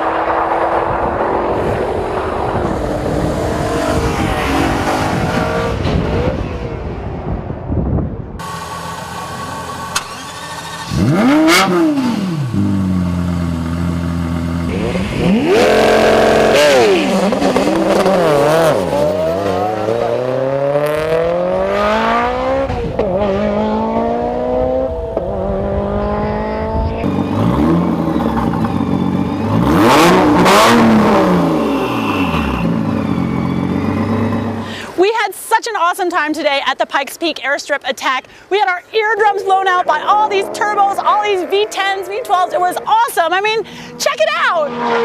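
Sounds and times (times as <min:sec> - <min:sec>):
car engines at full throttle: 0:00.0 - 0:35.0, 0:39.2 - 0:45.0
cars passing by: 0:00.0 - 0:45.0.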